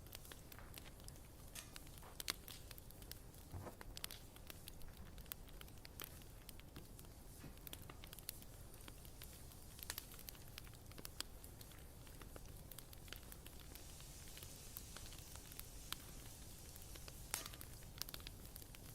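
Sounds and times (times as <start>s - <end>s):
bonfire crackling: 0.0s - 18.9s.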